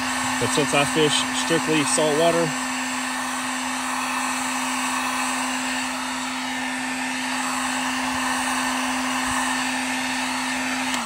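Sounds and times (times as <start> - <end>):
heat gun humming: 0.0 - 11.0.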